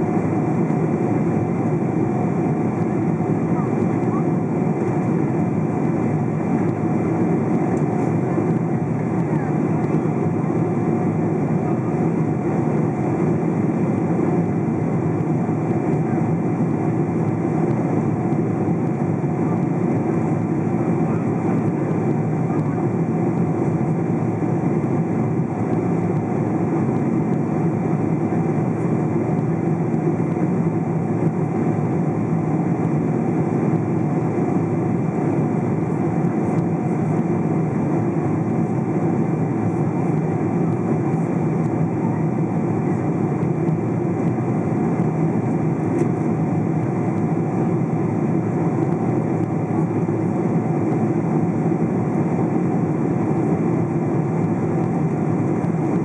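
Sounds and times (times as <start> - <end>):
jet engine drone and airflow: 0.0 - 56.0.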